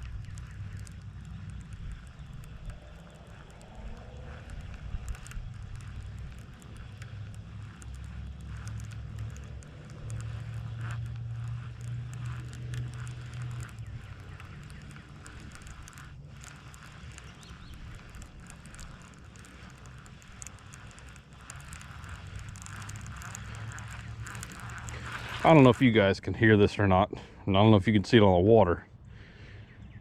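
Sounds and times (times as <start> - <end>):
wind buffeting microphone: 0.0 - 26.6
faint ticks and crackles: 0.0 - 27.4.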